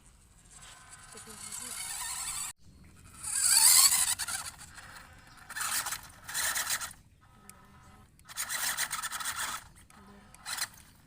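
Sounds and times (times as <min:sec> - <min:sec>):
faint motor whine: 0:00.0 - 0:11.0
toy truck motor rasping: 0:00.0 - 0:11.0.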